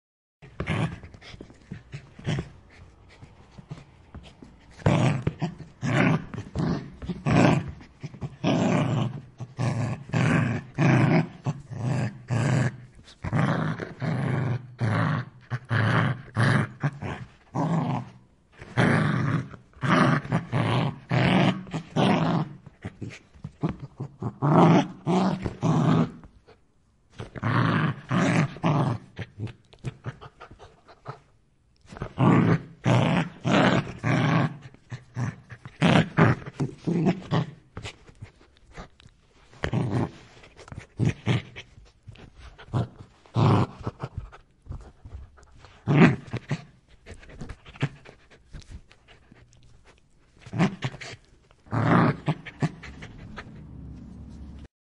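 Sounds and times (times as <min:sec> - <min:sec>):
dog growling: 0:00.4 - 0:26.6, 0:27.2 - 0:31.3, 0:31.9 - 0:38.9, 0:39.6 - 0:48.4, 0:50.4 - 0:54.7.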